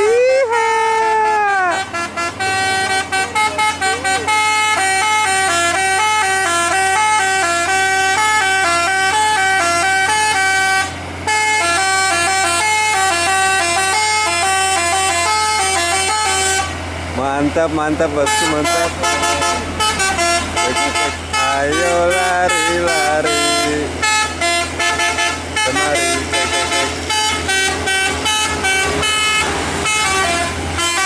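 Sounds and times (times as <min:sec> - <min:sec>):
musical air horn playing melody: 0:00.4 - 0:16.8, 0:18.2 - 0:31.0.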